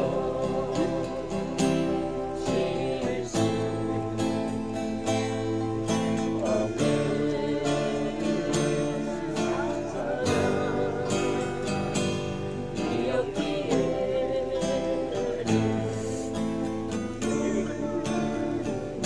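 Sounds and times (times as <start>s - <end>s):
acoustic guitar strumming: 0.0s - 19.0s
person singing a ballad: 0.0s - 19.0s.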